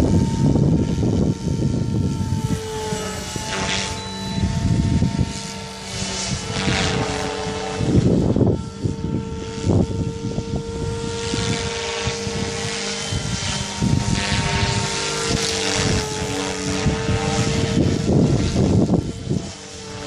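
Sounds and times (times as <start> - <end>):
rc helicopter whine: 0.0 - 20.0
wind buffeting microphone: 0.0 - 20.0.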